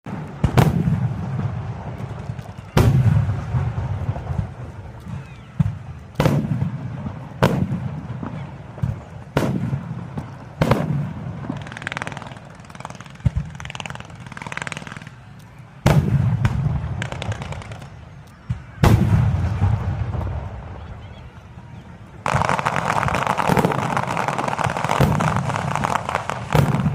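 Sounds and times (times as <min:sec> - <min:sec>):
firework booms: 0:00.1 - 0:15.1, 0:15.8 - 0:21.2, 0:22.2 - 0:26.9
firework crackling: 0:00.1 - 0:26.9.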